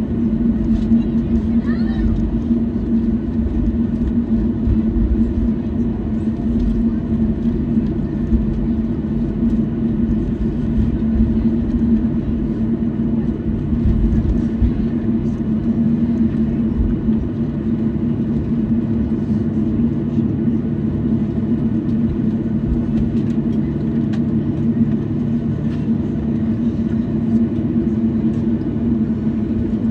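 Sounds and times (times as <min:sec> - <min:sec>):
airplane cabin drone: 0:00.0 - 0:29.9.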